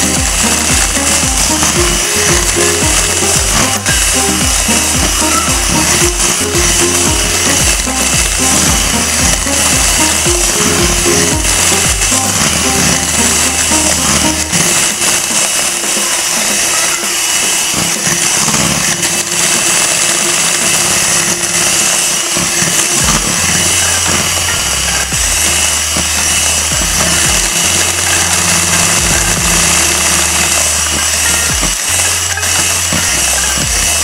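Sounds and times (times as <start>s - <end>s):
electric hand mixer whirring: 0.0s - 34.0s.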